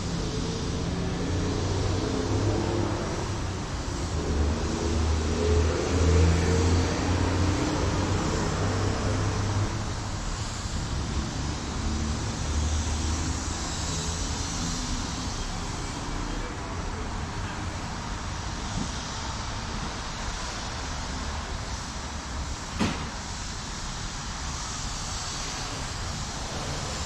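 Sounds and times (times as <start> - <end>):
cars passing and idling: 0.0 - 27.0
steady hiss: 0.0 - 27.0.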